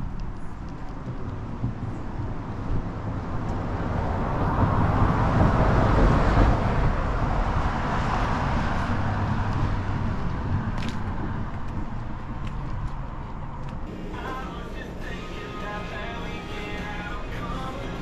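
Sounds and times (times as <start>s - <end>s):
road traffic rumble: 0.0s - 18.0s
vehicle passing by: 2.3s - 18.0s.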